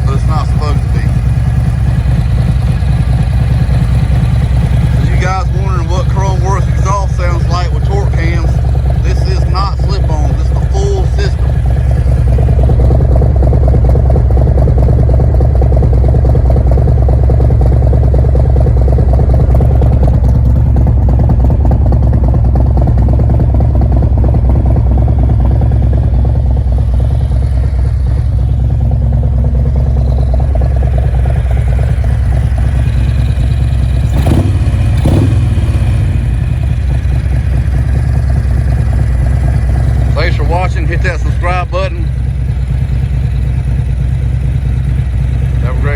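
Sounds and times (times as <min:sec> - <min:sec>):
motorcycle engine running loud: 0:00.0 - 0:45.9.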